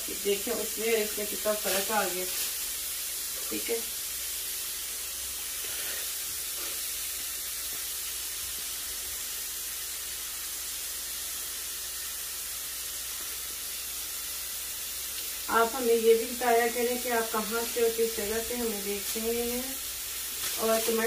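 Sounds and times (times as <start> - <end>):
meat patties sizzling on hot pan: 0.0 - 21.0.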